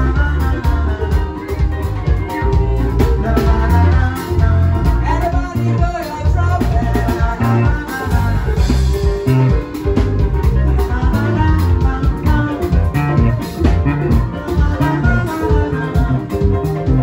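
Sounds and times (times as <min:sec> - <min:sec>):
drum kit: 0:00.0 - 0:17.0
electric guitar: 0:00.0 - 0:17.0
live band dance music: 0:00.0 - 0:17.0.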